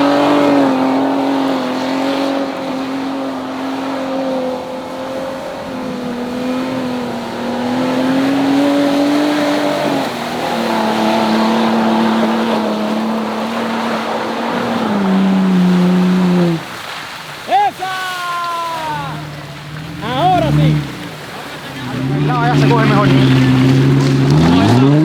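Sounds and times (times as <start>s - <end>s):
engine running at high revs: 0.0s - 17.3s, 18.8s - 25.0s.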